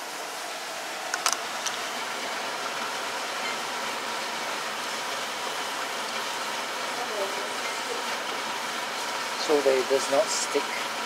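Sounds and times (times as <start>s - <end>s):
curry simmering hiss: 0.0s - 11.0s.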